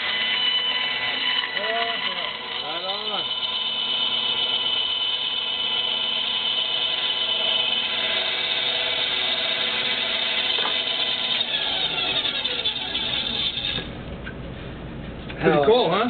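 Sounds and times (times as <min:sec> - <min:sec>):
power tool cutting wood: 0:00.0 - 0:13.9.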